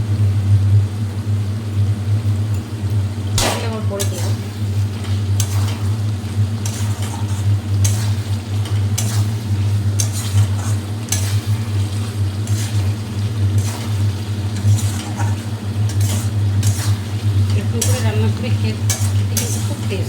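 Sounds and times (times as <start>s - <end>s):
steady low hum: 0.0s - 20.0s
spatula scraping in a pan: 3.7s - 20.0s.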